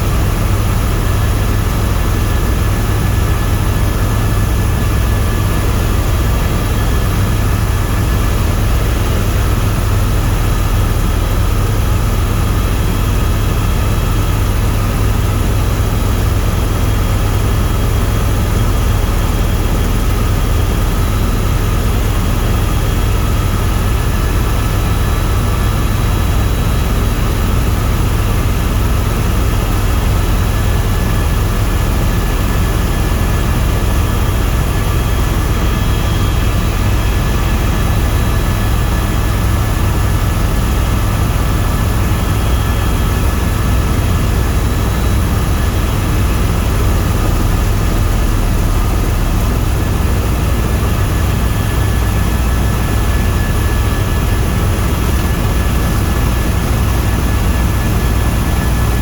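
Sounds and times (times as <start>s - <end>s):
faint steady whines: 0.0s - 59.0s
helicopter rotor roar: 0.0s - 59.0s.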